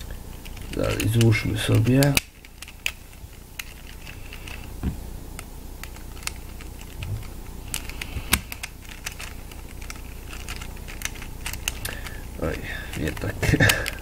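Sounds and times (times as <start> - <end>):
plastic puzzle cube pieces clicking: 0.4 - 4.7, 5.8 - 7.1, 7.7 - 14.0.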